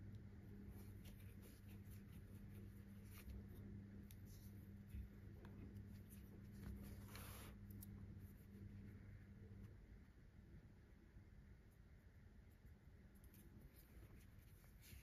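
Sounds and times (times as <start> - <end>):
steady low hum: 0.0 - 15.0
hands rustling and scratching yarn: 0.2 - 9.8, 12.5 - 15.0.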